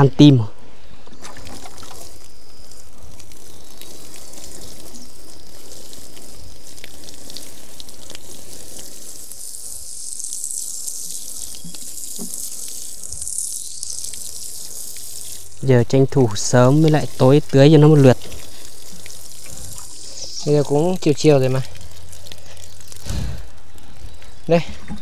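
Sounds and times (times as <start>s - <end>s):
water pouring from watering can: 1.2s - 25.0s.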